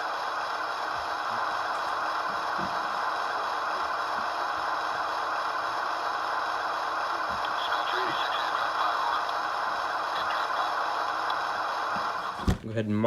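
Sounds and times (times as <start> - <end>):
diesel idle through small speaker: 0.0 - 12.5.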